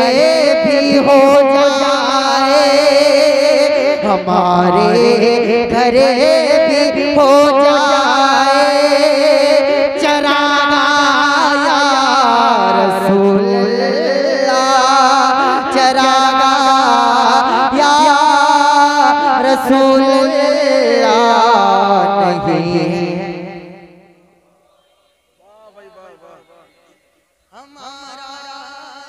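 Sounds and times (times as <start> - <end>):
man singing into a microphone: 0.0 - 23.9, 27.5 - 29.0.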